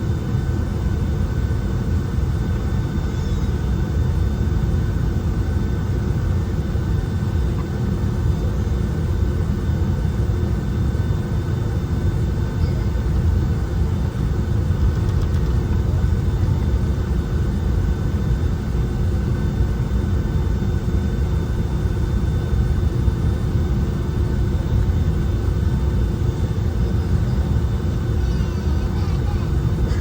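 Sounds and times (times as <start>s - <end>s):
faint steady whine: 0.0s - 30.0s
jet engine cabin rumble: 0.0s - 30.0s.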